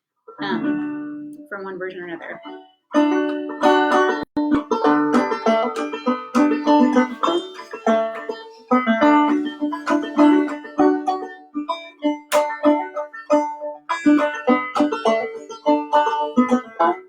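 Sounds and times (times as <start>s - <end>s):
banjo playing fast tune: 0.4s - 17.0s.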